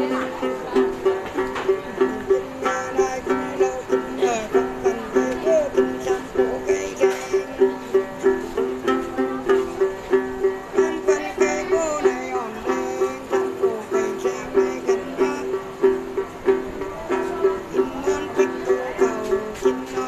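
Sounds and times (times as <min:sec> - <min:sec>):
plucked lute rhythm: 0:00.0 - 0:20.0
woman singing: 0:00.0 - 0:20.0.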